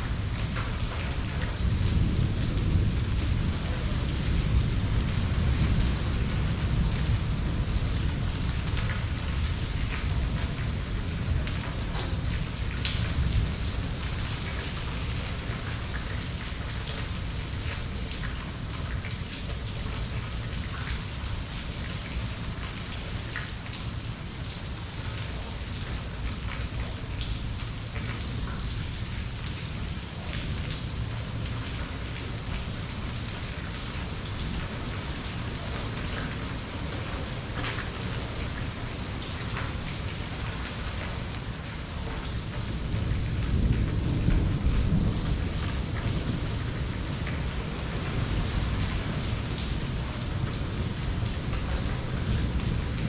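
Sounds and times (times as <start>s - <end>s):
constant low rumble: 0.0s - 53.0s
raindrops tapping: 0.0s - 53.0s
steady rain falling: 0.0s - 53.0s.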